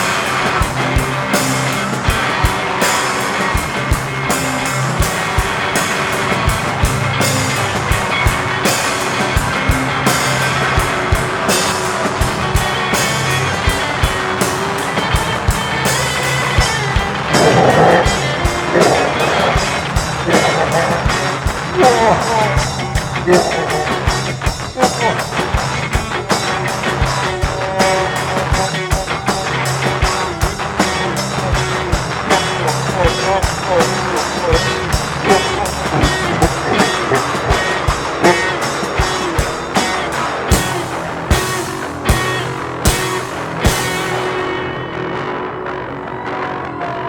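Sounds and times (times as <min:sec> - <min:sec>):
steady drumbeat: 0:00.0 - 0:44.7
bass guitar: 0:00.0 - 0:47.0
electric guitar: 0:00.0 - 0:47.0.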